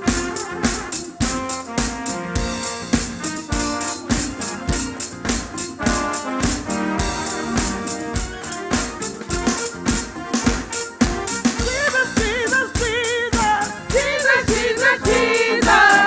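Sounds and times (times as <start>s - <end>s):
band playing instrumental: 0.0s - 16.0s
drum kit beat: 0.0s - 16.0s
held keyboard chords: 0.0s - 16.0s.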